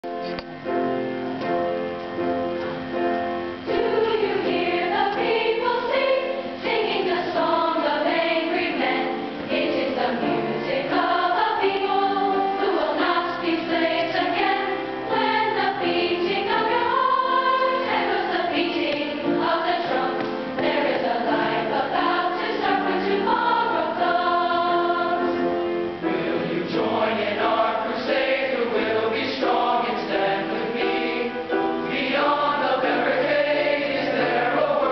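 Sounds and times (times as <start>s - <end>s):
piano accompaniment: 0.0s - 34.9s
choir singing in harmony: 3.6s - 34.9s.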